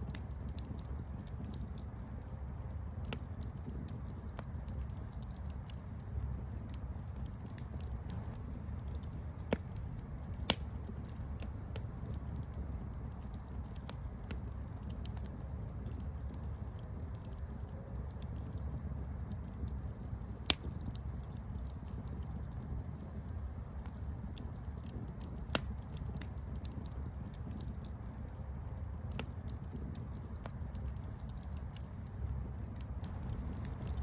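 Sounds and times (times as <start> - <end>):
sharp fire pops: 0.0 - 17.6, 18.2 - 34.0
campfire crackling: 0.0 - 34.0.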